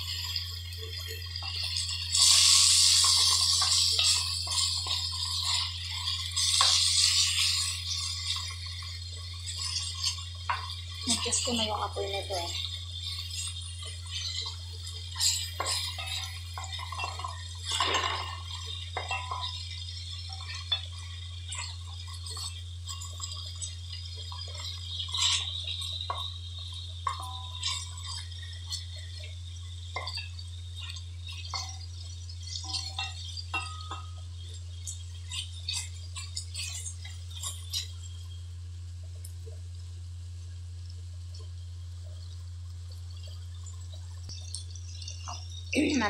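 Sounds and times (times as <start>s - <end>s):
wooden spatula scraping a pot: 0.0s - 38.2s
light sizzling: 0.0s - 46.0s.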